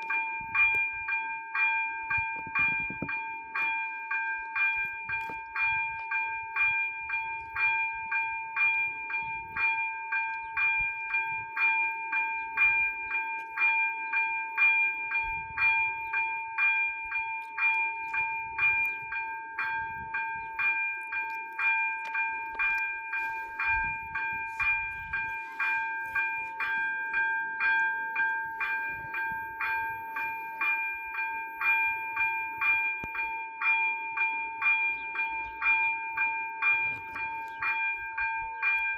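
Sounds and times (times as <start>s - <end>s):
level crossing warning bells: 0.0s - 38.9s.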